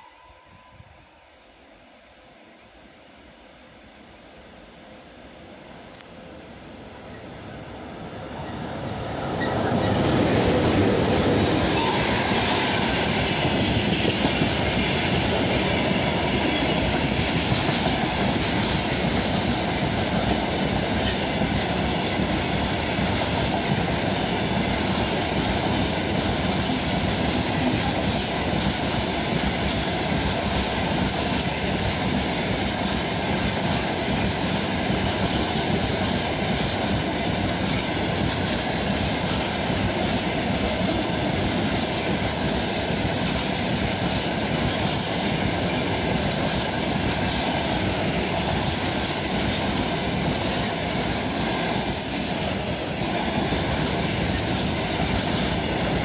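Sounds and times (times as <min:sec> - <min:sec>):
train wheels rushing on rails: 0:02.9 - 0:56.0.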